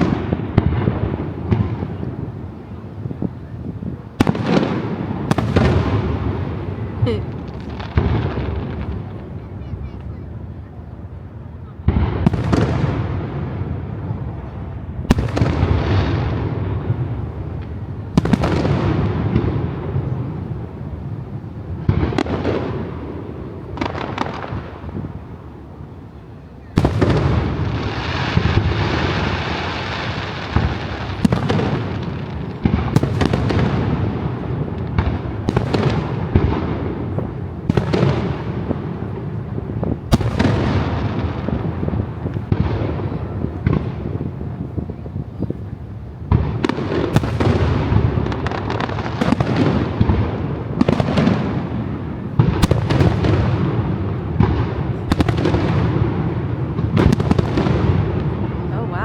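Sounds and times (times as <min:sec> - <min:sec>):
fireworks bursts booming: 0:00.0 - 0:59.0
fireworks crackling: 0:00.0 - 0:59.0.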